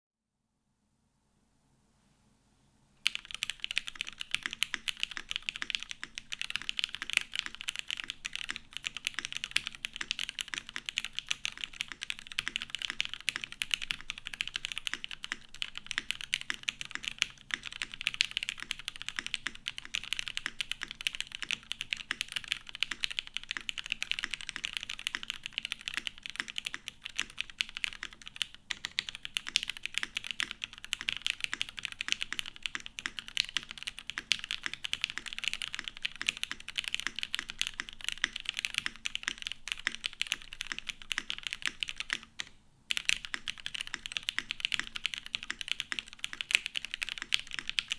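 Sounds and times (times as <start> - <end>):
mechanical keyboard typing: 3.0 - 47.9.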